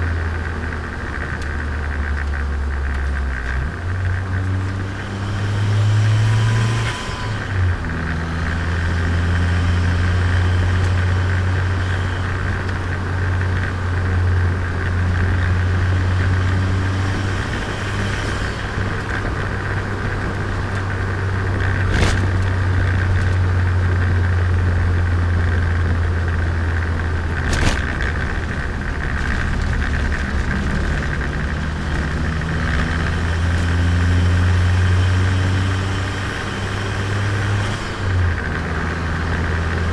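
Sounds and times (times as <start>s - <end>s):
car engine pulling: 0.0s - 39.9s
road noise: 0.0s - 39.9s.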